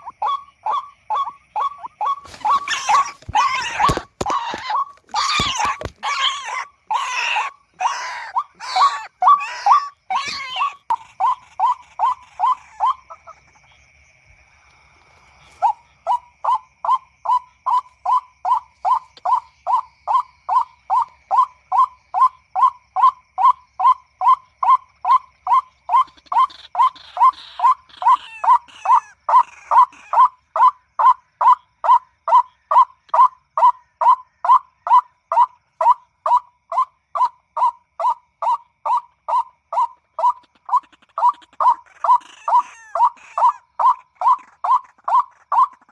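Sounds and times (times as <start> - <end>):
waterhen calling kwak: 0.0 - 13.8, 15.5 - 45.9.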